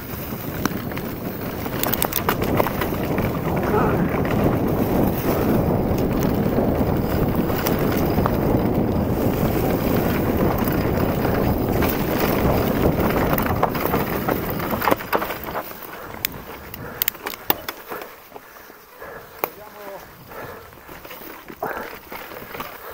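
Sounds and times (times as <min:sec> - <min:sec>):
wind buffeting microphone: 0:00.0 - 0:17.7, 0:18.3 - 0:22.9
bike rattling: 0:00.0 - 0:22.9
tyre rumble on dirt trail: 0:00.0 - 0:22.9.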